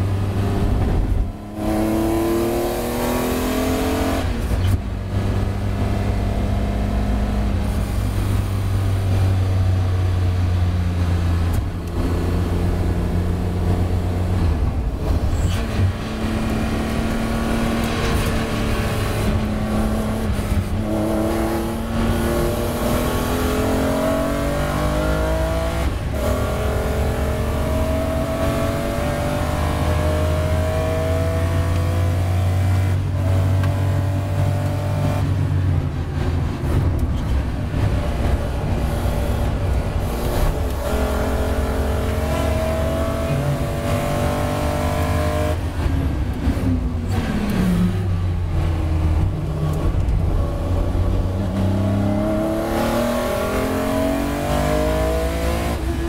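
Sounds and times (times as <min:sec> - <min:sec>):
race car engine accelerating: 0:00.0 - 0:35.4, 0:36.2 - 0:56.0.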